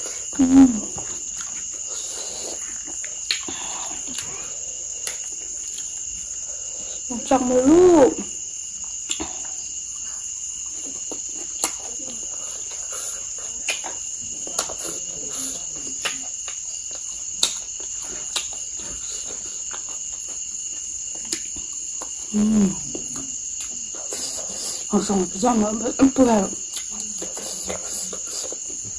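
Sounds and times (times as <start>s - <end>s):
insect chirring: 0.0s - 28.9s.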